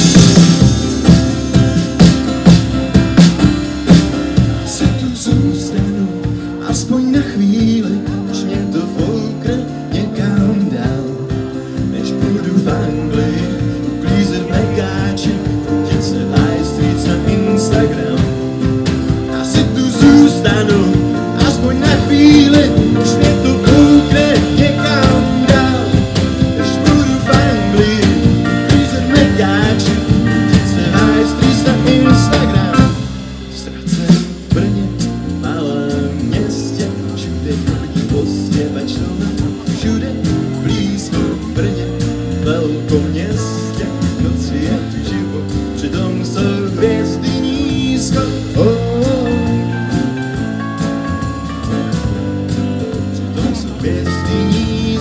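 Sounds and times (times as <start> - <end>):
acoustic guitar: 0.0 - 55.0
drum kit: 0.0 - 55.0
electric bass: 0.0 - 55.0
stage piano: 0.0 - 55.0
man singing: 4.1 - 55.0.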